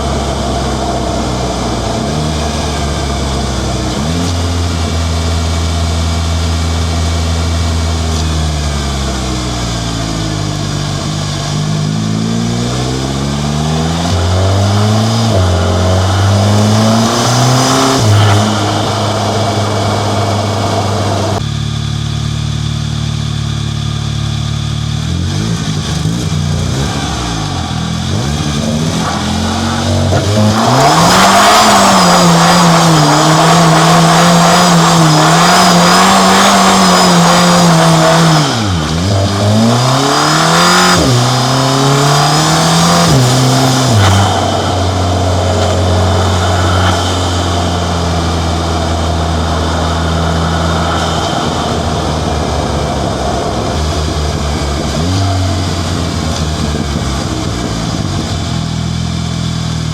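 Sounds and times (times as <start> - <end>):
car engine revving and shifting: 0.0 - 21.5, 23.2 - 59.9.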